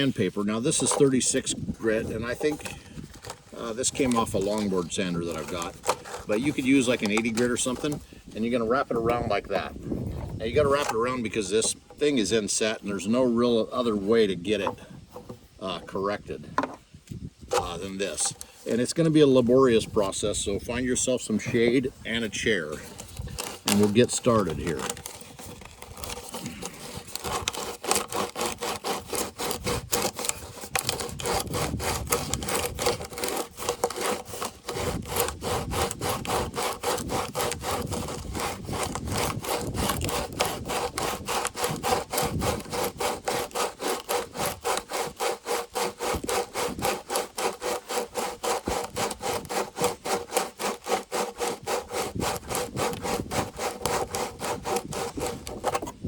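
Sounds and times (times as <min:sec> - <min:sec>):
sandpaper scraping plastic: 0:00.0 - 0:16.3, 0:17.5 - 0:56.0.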